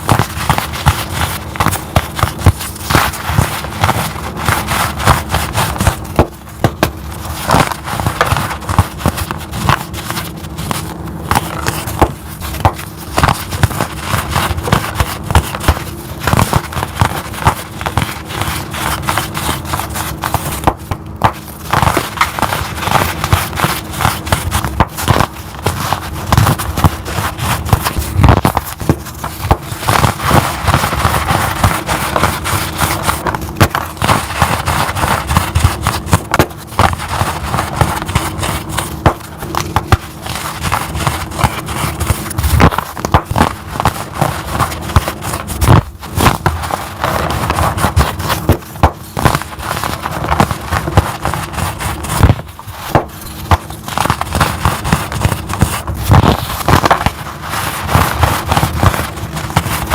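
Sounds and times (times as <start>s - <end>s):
chalk crushed by hand: 0.0s - 59.9s.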